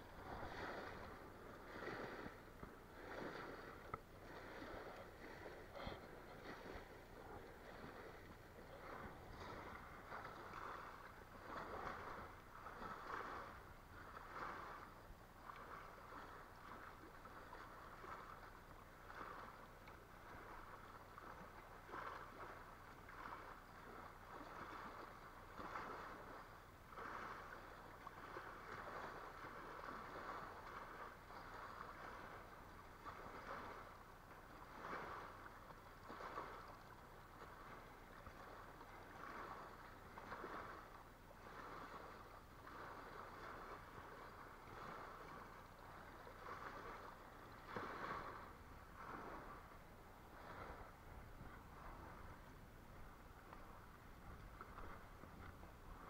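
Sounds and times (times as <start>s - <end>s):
small waves lapping on shore: 0.0s - 56.0s.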